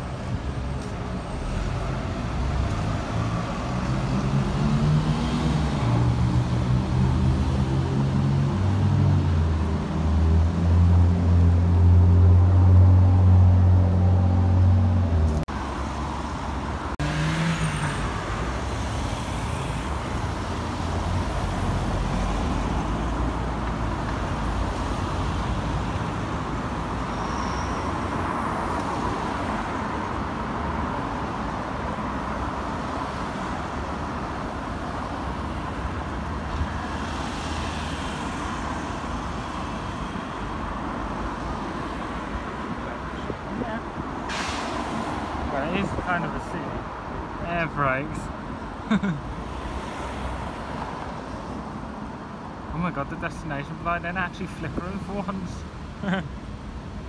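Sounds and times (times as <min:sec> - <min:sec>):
traffic: 0:00.0 - 0:57.0.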